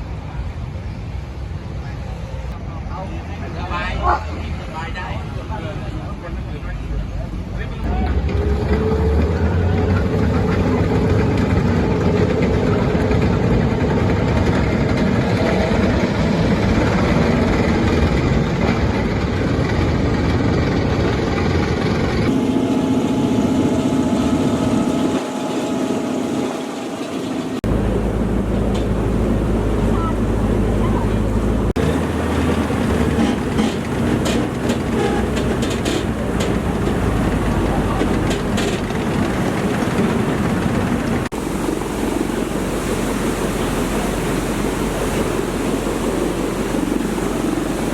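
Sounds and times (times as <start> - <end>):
heavy vehicle engine running: 5.3 - 47.9.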